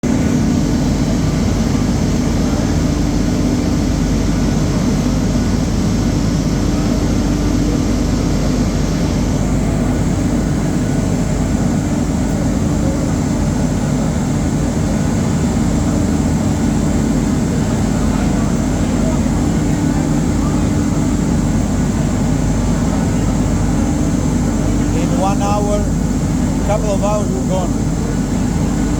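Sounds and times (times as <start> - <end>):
mill machinery drone: 0.0 - 28.9.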